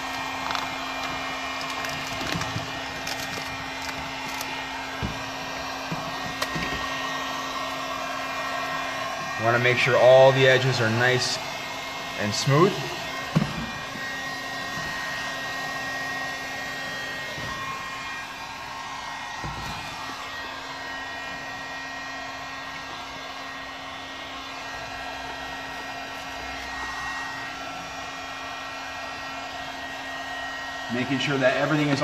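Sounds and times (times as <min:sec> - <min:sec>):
heat gun blowing: 0:00.0 - 0:32.0.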